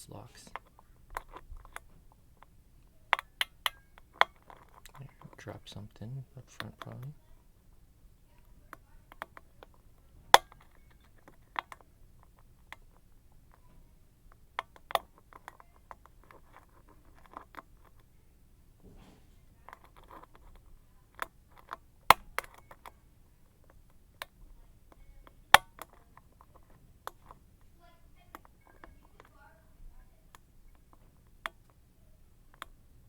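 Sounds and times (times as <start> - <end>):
faint scratching: 3.8 - 14.4, 15.0 - 31.2.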